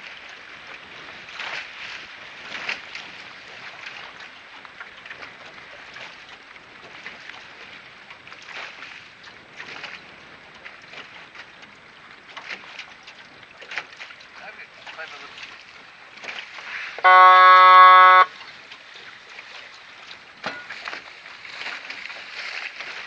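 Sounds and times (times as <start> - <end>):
rush of wind and water: 0.0 - 23.0.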